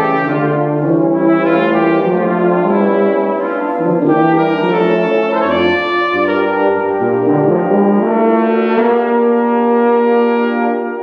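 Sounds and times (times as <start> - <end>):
deep tuba note: 0.0 - 11.0
tuba and euphonium ensemble chords: 0.0 - 11.0.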